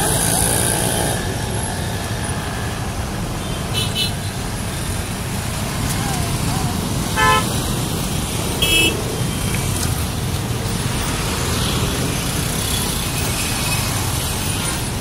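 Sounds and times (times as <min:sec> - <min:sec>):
traffic engines rumbling: 0:00.0 - 0:15.0.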